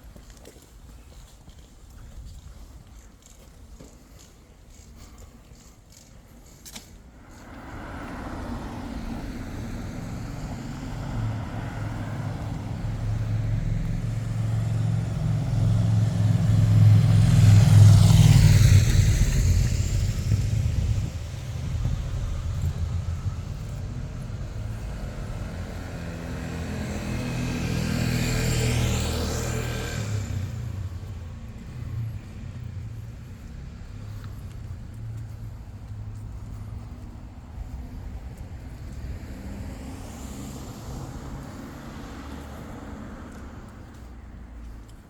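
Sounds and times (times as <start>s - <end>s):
car driving past: 7.2s - 44.8s
vehicle approaching: 7.2s - 45.0s.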